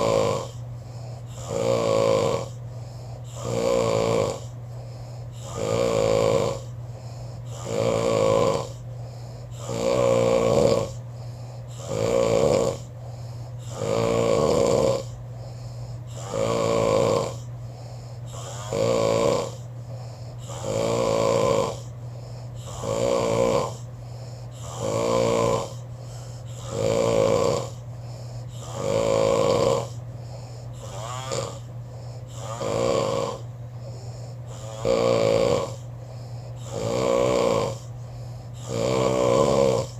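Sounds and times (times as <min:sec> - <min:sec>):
person snoring: 0:00.0 - 0:39.9
quiet breathing: 0:00.0 - 0:39.9.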